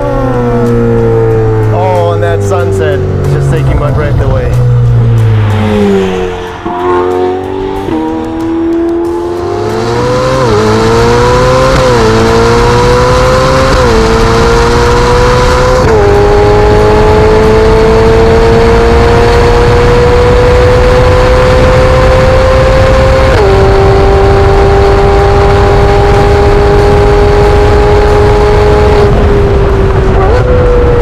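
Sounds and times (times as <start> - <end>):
sports car engine accelerating: 0.0 - 31.0.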